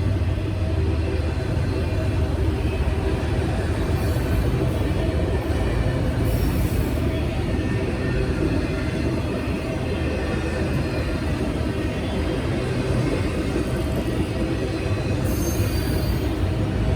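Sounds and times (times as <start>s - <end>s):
freight train rumbling past: 0.0s - 16.9s.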